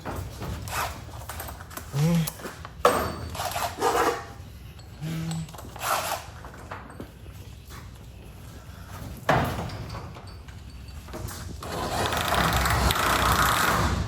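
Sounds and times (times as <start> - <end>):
tools clunking on metal: 0.0 - 14.0.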